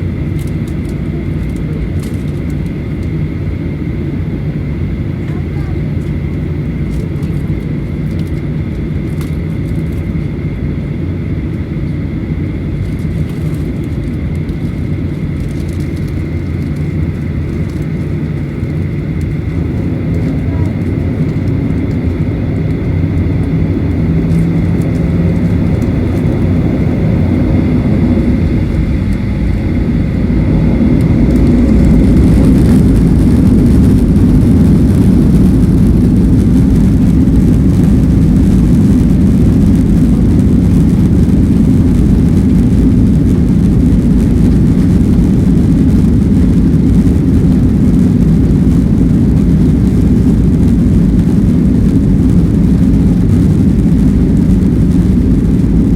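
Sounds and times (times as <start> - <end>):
jet engine low rumble: 0.0 - 55.9
jet engines whining: 0.0 - 55.9.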